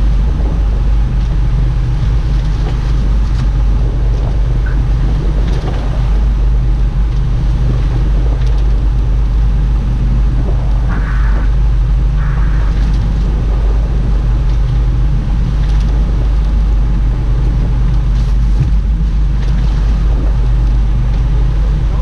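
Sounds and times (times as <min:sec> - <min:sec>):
boat engine humming: 0:00.0 - 0:22.0
water noise: 0:00.0 - 0:22.0
wind noise: 0:00.0 - 0:22.0.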